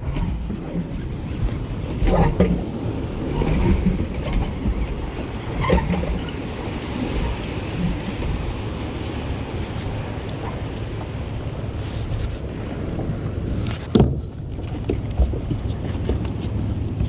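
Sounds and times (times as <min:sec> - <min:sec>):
water slapping against hull: 0:00.0 - 0:17.0
wind buffeting microphone: 0:00.0 - 0:17.0.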